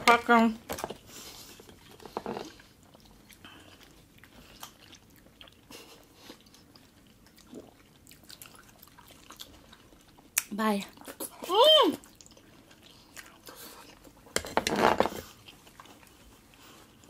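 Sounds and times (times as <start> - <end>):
wet chewing and mouth sounds: 0.2 - 17.0.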